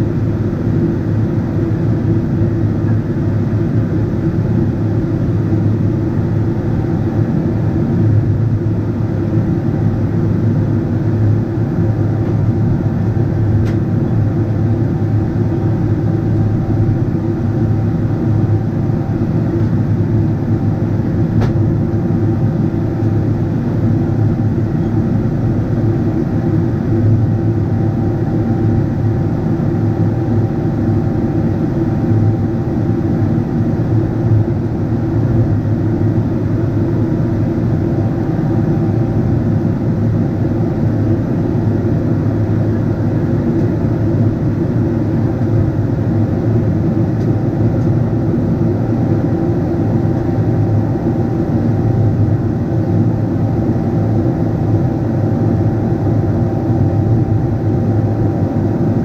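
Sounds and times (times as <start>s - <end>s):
jet engine drone: 0.0s - 59.0s.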